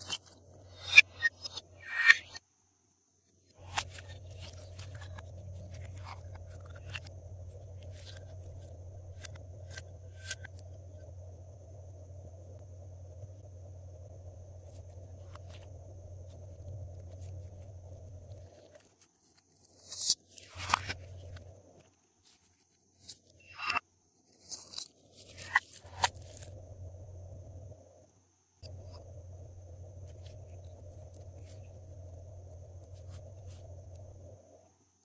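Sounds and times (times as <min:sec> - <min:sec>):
low background hum: 0:00.0 - 0:35.0.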